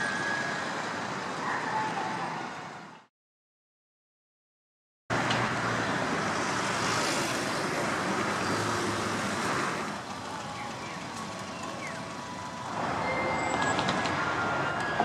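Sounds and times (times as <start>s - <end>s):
road traffic noise: 0.0s - 3.1s, 5.1s - 15.0s.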